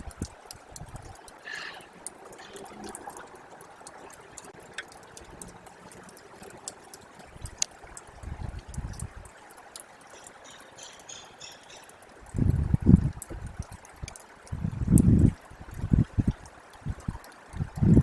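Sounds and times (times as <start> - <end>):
meltwater trickling and dripping: 0.0 - 18.0.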